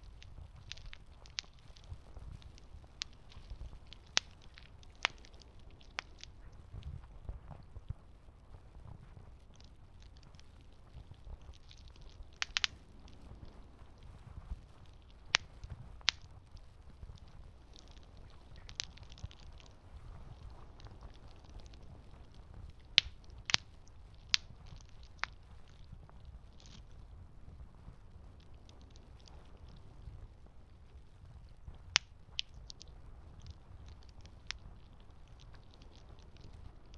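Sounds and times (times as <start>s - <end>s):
campfire crackling: 0.0s - 36.9s.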